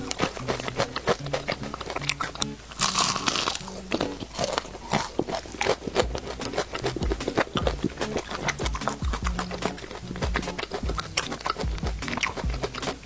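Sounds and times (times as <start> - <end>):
crunchy bite into crispy food: 0.0 - 13.0
crunchy chewing: 0.0 - 13.0
soft background music: 0.0 - 13.0.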